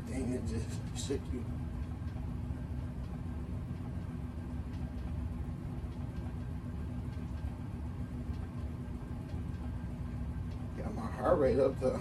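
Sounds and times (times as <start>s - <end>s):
vibration plate motor hum: 0.0s - 12.0s.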